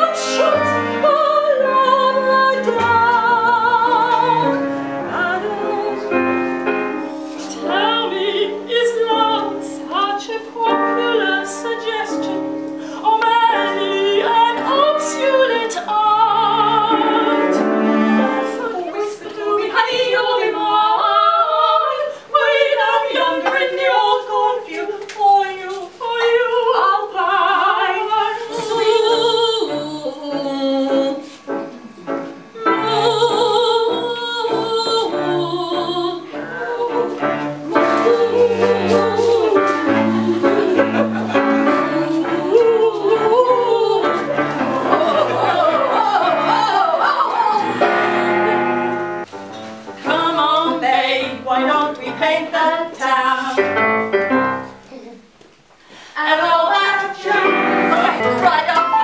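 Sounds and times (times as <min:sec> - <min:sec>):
woman singing: 0:00.0 - 0:06.4, 0:07.5 - 0:31.4, 0:32.6 - 0:47.9, 0:50.0 - 0:53.8, 0:56.1 - 0:59.0
cello: 0:00.0 - 0:24.9, 0:26.2 - 0:52.4.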